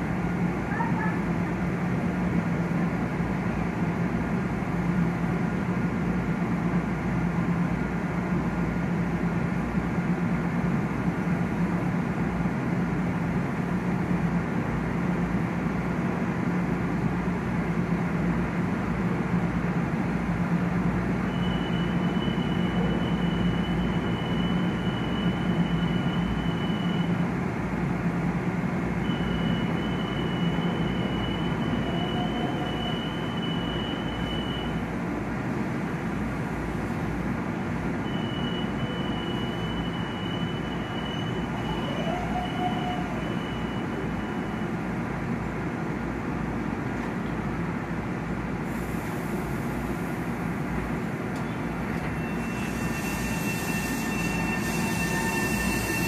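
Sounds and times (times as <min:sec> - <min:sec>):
commuter train rumbling: 0:00.0 - 0:56.0.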